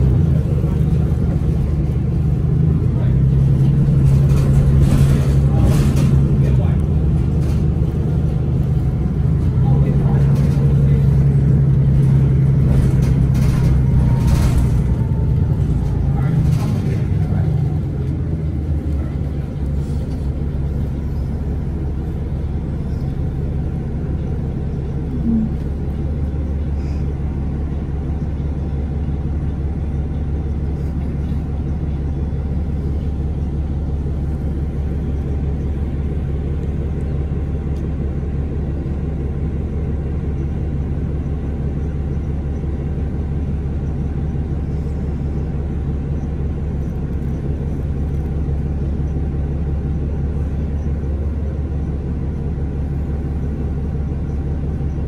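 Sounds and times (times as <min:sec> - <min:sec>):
bus diesel engine running: 0:00.0 - 0:55.0
low road rumble: 0:00.0 - 0:55.0.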